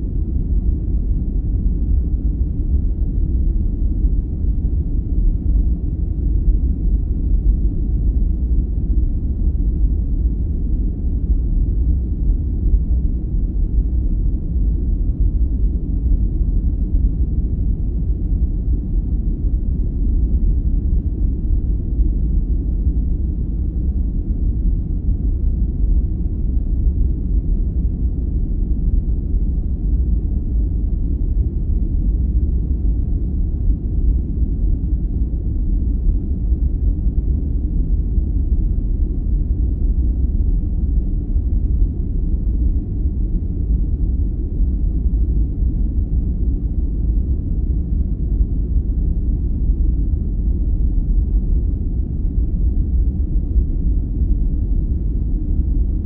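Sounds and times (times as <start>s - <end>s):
deep muffled steady noise: 0.0s - 56.0s.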